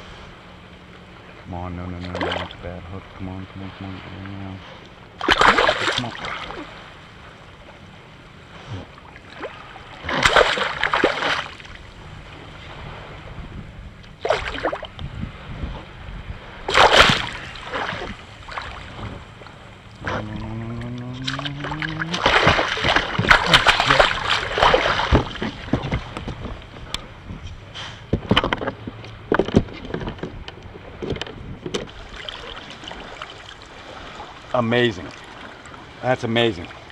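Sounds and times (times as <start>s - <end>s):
water splashing: 0.7s - 13.3s, 13.9s - 15.0s, 16.5s - 30.2s, 31.8s - 36.9s.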